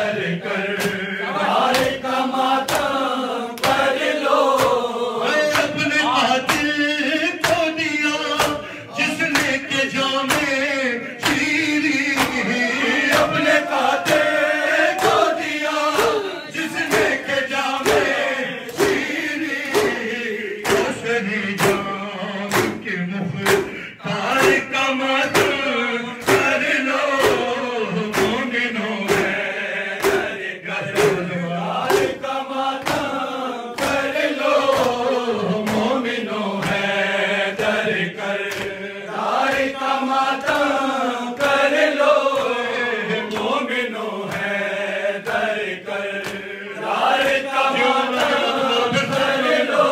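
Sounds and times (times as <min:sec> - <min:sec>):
man chanting into a microphone: 0:00.0 - 0:49.9
men chanting in chorus: 0:00.0 - 0:49.9
rhythmic hand slaps: 0:00.0 - 0:49.9.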